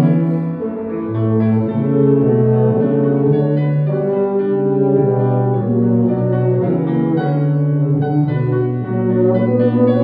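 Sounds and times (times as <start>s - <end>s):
piano accompaniment: 0.0s - 10.0s
tubas playing low notes: 0.0s - 10.0s.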